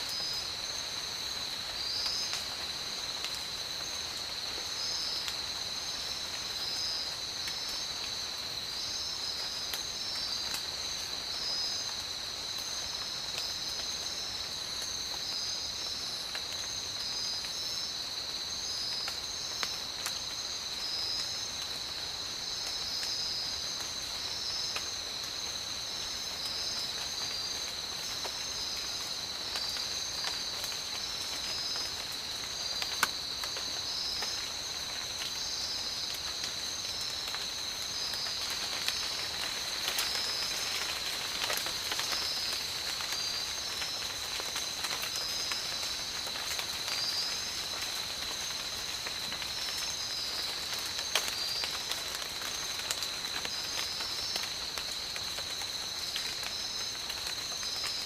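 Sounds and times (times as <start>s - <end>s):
pulsing insect chorus: 0.0s - 58.0s
steady rain falling: 0.0s - 58.0s.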